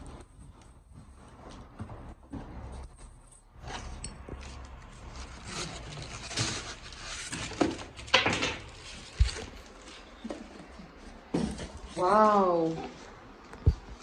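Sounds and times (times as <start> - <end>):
plastic and foam packaging rustling: 0.0 - 14.0.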